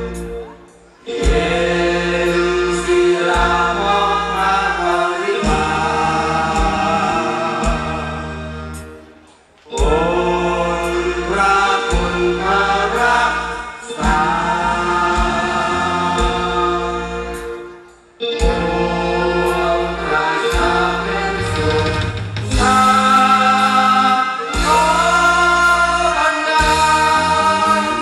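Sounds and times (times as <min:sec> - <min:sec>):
musical accompaniment: 0:00.0 - 0:28.0
men singing slow song: 0:01.1 - 0:08.7, 0:09.7 - 0:17.5, 0:18.4 - 0:28.0.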